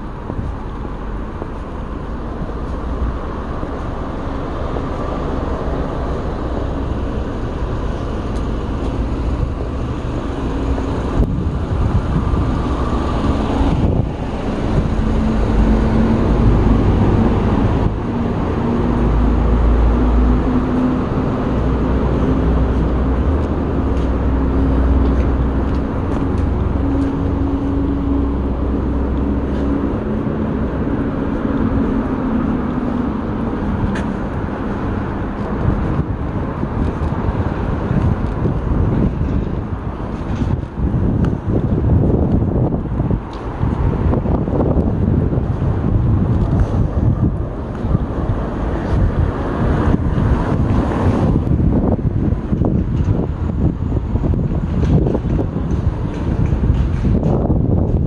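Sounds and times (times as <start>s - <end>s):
low hum: 0.0s - 58.0s
low rumble: 0.0s - 58.0s
vehicle engine running: 0.0s - 58.0s.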